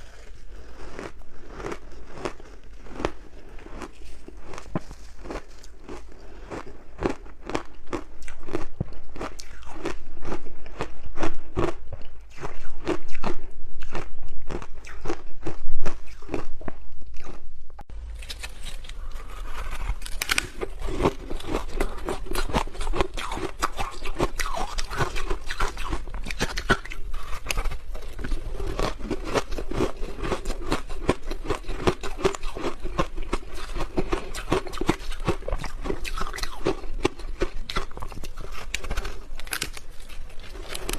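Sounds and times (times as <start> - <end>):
crunching ice chewing: 0.0 - 17.4, 18.1 - 40.9.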